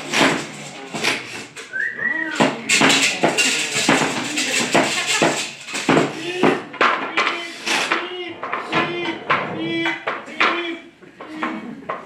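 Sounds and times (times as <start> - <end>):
metal clanks in rhythm: 0.0 - 10.7.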